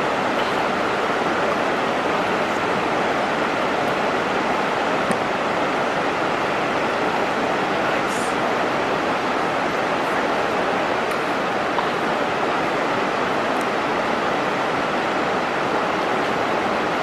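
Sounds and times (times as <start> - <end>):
river rushing over rapids: 0.0 - 17.0.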